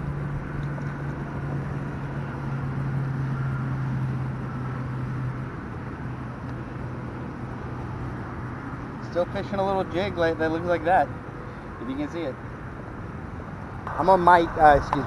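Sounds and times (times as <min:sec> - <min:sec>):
freeway traffic noise: 0:00.0 - 0:15.0.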